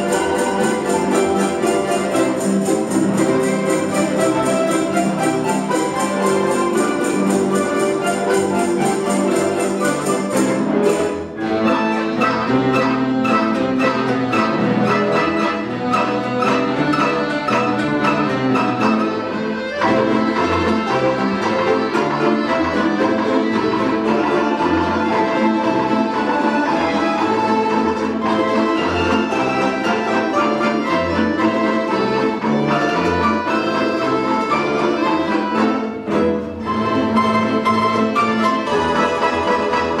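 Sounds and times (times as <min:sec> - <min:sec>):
folk ensemble dance tune: 0:00.0 - 0:40.0.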